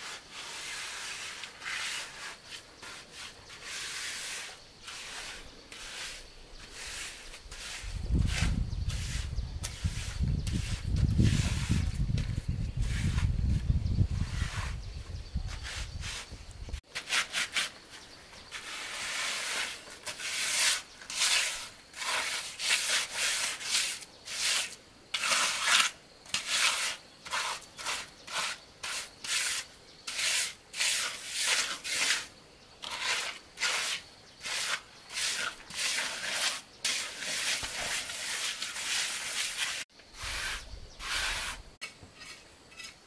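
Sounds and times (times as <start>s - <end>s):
hand tool scraping hard surface: 0.0s - 43.0s.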